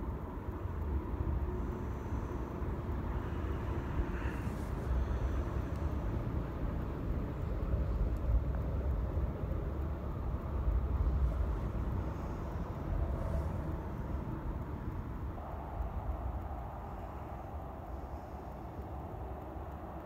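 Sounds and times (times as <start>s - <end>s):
low rumble of distant vehicles: 0.0s - 20.0s.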